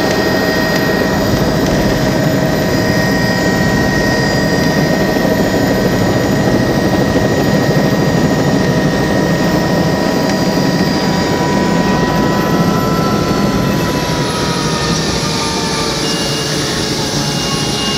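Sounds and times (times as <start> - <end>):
helicopter rotor rumble: 0.0 - 17.9
helicopter turbine whine: 0.0 - 17.9.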